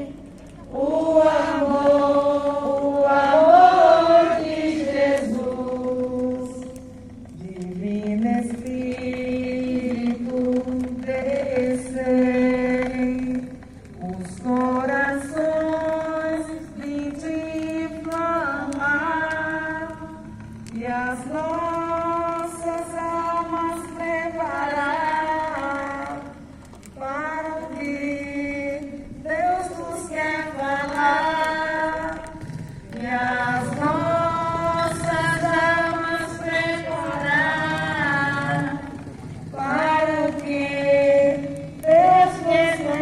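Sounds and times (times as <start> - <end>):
group singing a hymn: 0.0 - 13.6, 14.2 - 26.4, 27.0 - 43.0.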